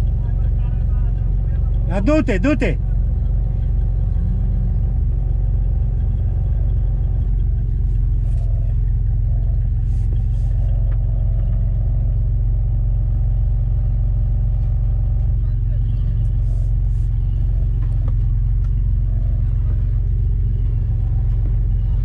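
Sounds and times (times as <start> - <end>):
off-road engines rumbling: 0.0 - 22.0.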